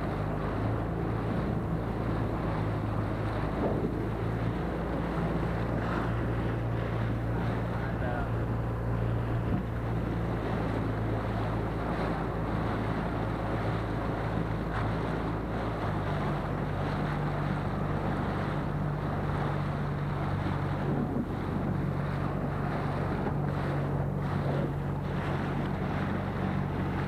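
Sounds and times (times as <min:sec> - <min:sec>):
outboard motor running: 0:00.0 - 0:27.0
water rushing along hull: 0:00.0 - 0:27.0
wind buffeting microphone: 0:00.0 - 0:27.0.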